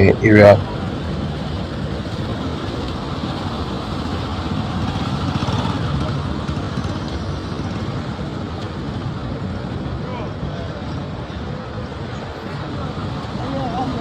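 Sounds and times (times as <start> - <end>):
steady low traffic rumble: 0.0 - 14.0
motor vehicle passing: 0.6 - 14.0.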